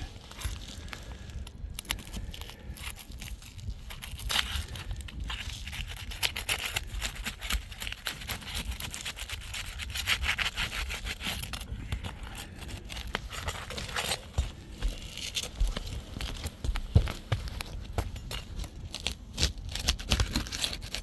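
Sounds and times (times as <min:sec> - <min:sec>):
shingles scraping and rubbing: 0:02.1 - 0:21.0.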